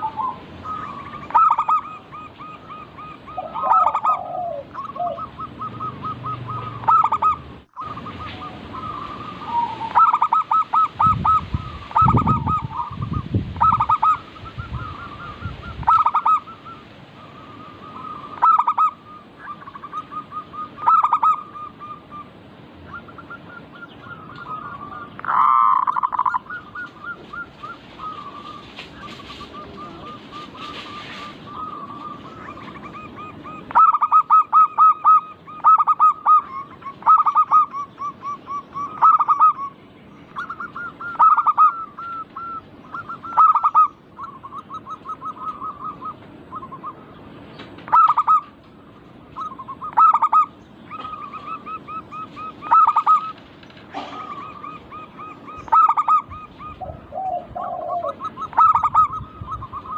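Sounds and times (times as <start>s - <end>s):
doves cooing in staccato phrases: 0.0s - 39.8s, 49.3s - 59.9s
faint dove cooing trill: 0.0s - 39.8s, 40.4s - 47.2s, 49.3s - 59.9s.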